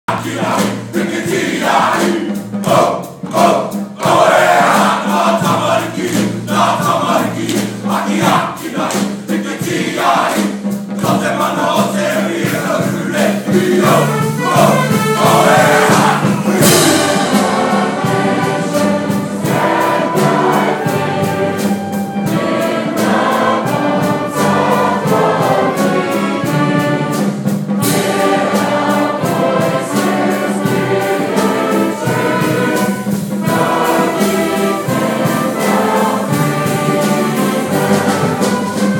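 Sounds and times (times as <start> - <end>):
brass instruments playing: 0.1 - 38.9
crowd singing together: 0.1 - 38.9.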